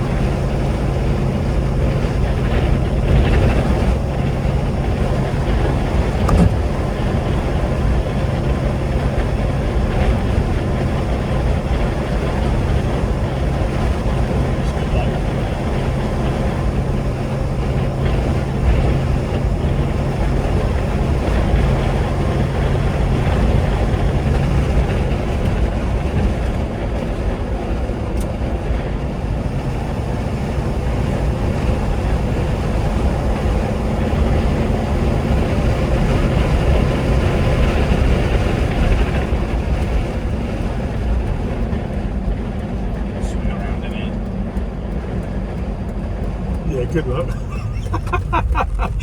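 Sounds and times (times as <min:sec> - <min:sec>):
car engine running: 0:00.0 - 0:49.0
road and wind noise: 0:00.0 - 0:49.0.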